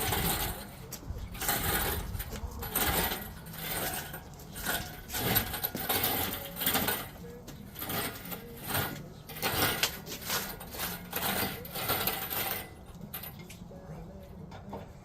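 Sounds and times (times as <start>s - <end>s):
metal tools clinking: 0.0s - 13.6s.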